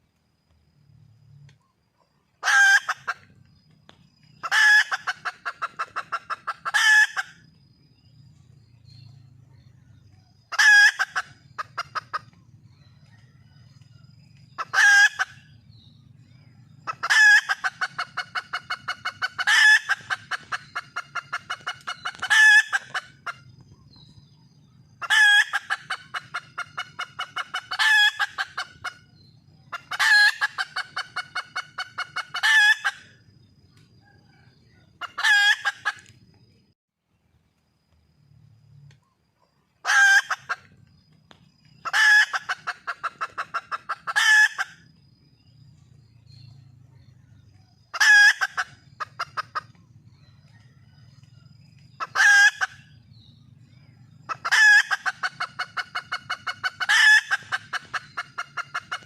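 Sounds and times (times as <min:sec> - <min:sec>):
junglefowl hen calling and clucking: 0:00.6 - 0:36.7, 0:38.8 - 0:59.0.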